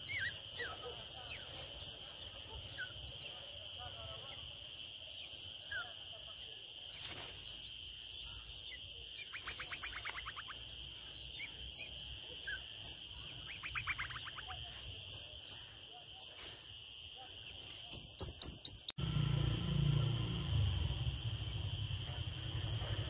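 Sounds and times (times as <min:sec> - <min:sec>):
nestling birds chirping: 0:00.0 - 0:19.0.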